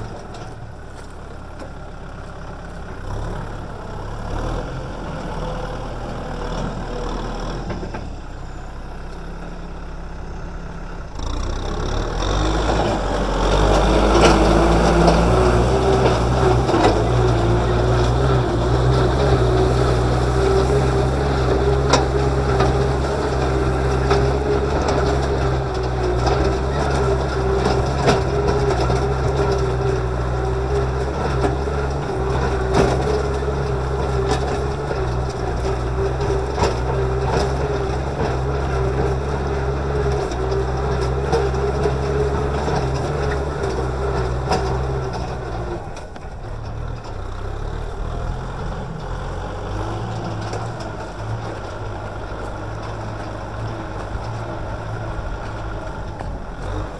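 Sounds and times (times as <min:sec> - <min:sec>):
soil crunching against plow discs: 0:00.0 - 0:56.9
tractor diesel engine running: 0:00.0 - 0:56.9.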